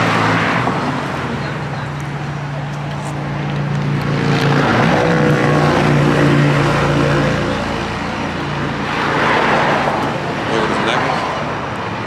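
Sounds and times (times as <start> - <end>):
traffic noise: 0.0 - 12.0
vehicle engine humming: 0.0 - 12.0.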